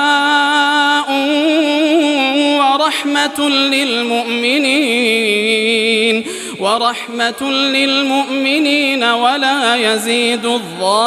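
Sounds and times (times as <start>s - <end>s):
man chanting melodic recitation: 0.0s - 11.0s.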